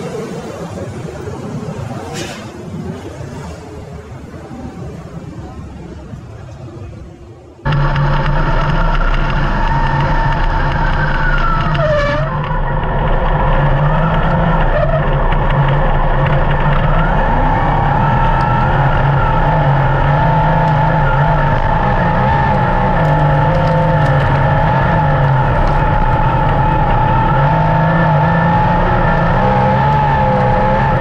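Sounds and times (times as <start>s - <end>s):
race car engines droning: 0.0s - 31.0s.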